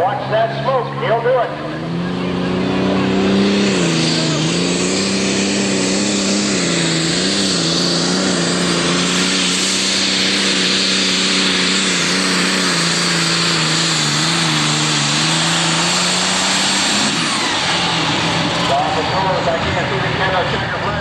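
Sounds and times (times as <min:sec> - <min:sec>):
tractor engine at high rpm: 0:00.0 - 0:21.0.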